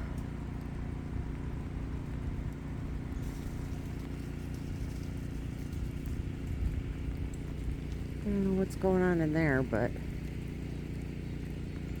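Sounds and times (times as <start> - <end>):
generator engine humming: 0.0 - 12.0.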